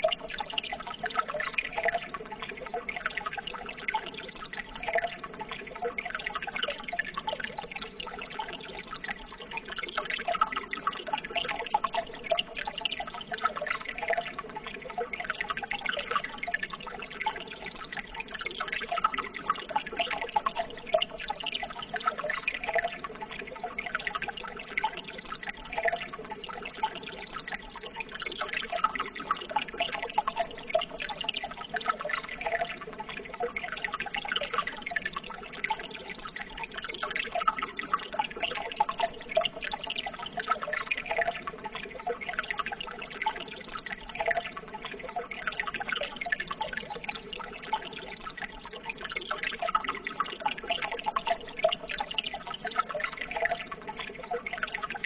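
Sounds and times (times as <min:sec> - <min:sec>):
water babbling and trickling: 0:00.0 - 0:55.0.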